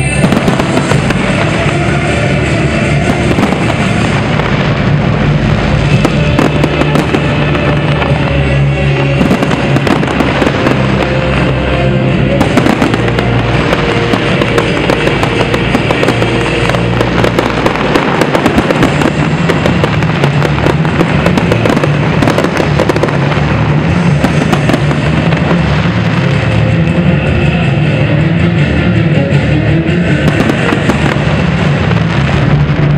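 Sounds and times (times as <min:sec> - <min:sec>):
fireworks crackling and popping: 0:00.0 - 0:32.9
loud music: 0:00.0 - 0:32.9.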